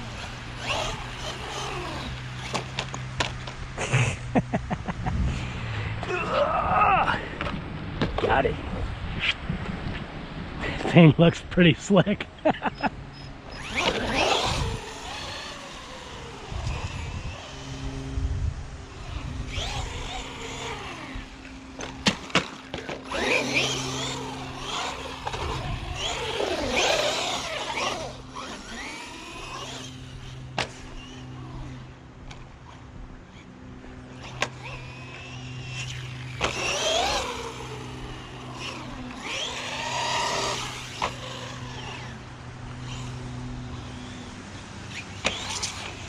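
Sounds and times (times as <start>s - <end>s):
electric motor whining: 0.0s - 4.3s, 12.9s - 46.0s
steady low hum: 0.0s - 46.0s.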